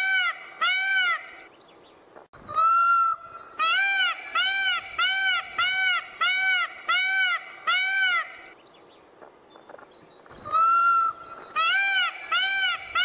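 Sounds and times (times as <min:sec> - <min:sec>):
peacock calling: 0:00.0 - 0:01.5, 0:02.4 - 0:08.6, 0:10.2 - 0:13.0.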